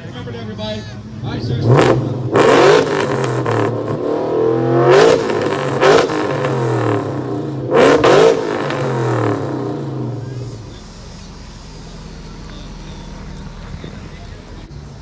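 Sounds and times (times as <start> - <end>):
car engine revving: 1.0 - 14.8.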